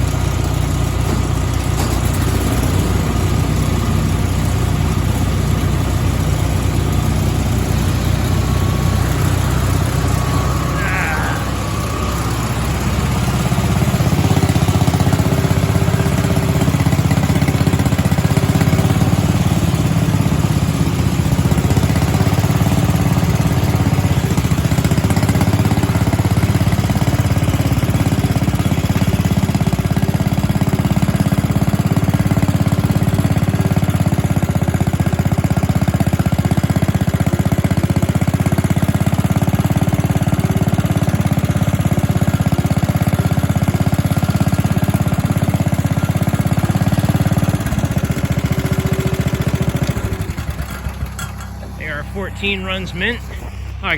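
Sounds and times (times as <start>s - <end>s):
garden tractor engine idling: 0.0s - 53.9s.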